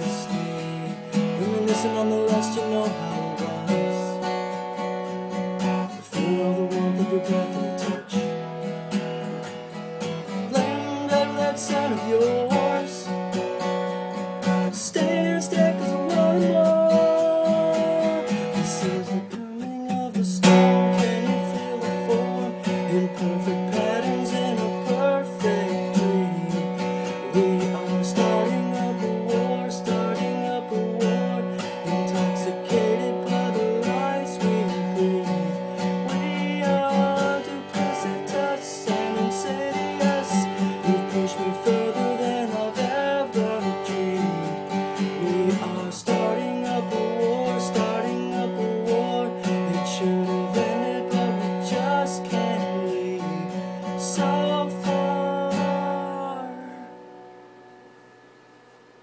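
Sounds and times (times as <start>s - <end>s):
man singing: 0.0s - 4.8s, 5.6s - 8.8s, 10.0s - 13.6s, 14.4s - 57.1s
acoustic guitar strumming: 0.0s - 59.0s.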